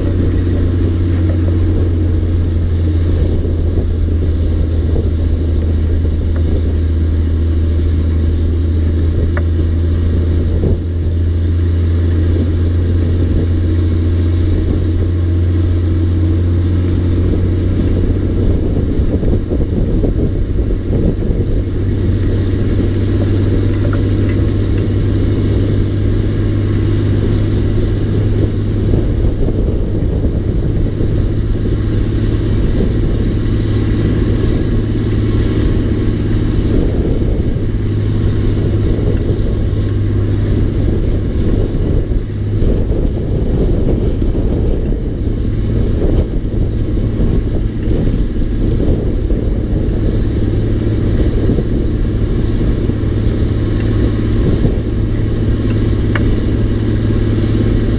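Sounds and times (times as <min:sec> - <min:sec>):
diesel truck engine droning: 0:00.0 - 0:57.9.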